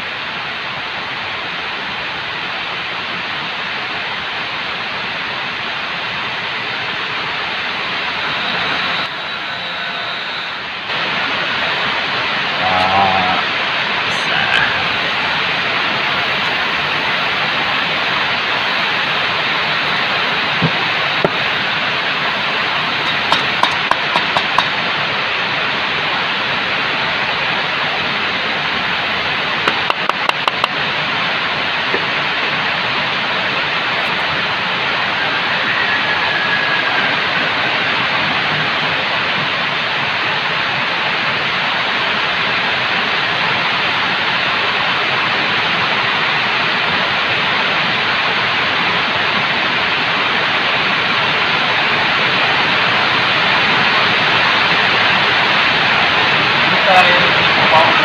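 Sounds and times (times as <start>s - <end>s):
loud background hiss: 0.0s - 58.0s.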